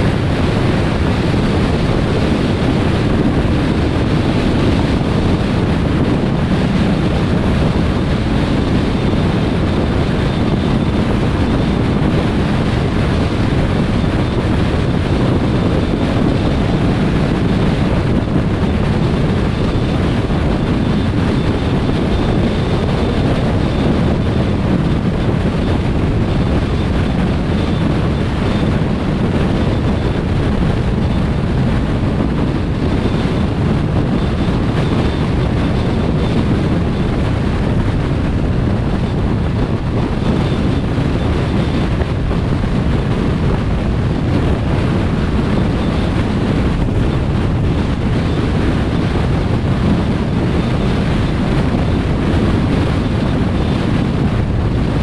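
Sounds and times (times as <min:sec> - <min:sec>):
car road noise rumble: 0:00.0 - 0:55.0.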